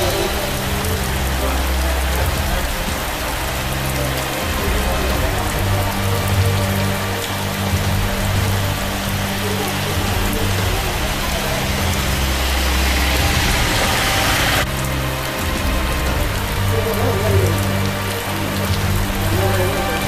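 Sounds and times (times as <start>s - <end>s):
heavy rain on ground and water: 0.0s - 20.0s.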